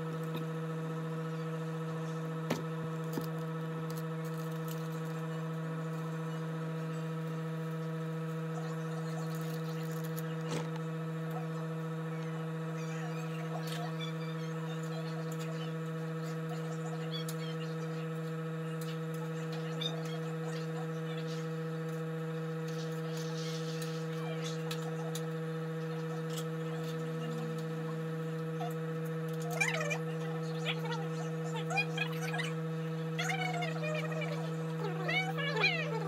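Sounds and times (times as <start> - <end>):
electrical buzzing hum: 0.0 - 36.0.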